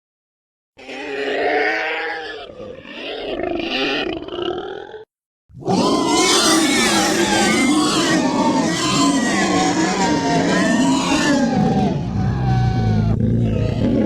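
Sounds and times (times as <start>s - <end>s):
dinosaur roar: 0.8s - 14.0s.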